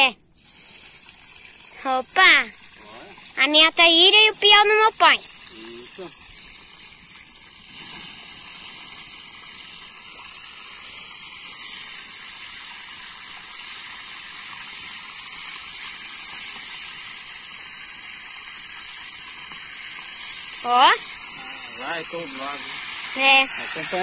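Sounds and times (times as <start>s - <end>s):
fish sizzling in hot fat: 0.0s - 24.0s.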